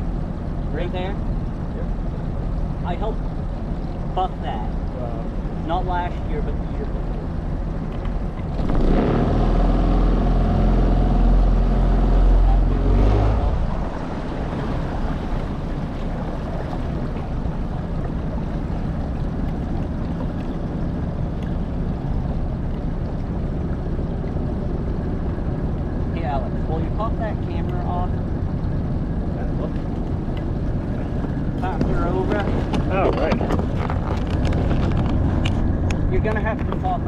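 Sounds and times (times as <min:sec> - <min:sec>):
motorboat engine running: 0:00.0 - 0:37.0.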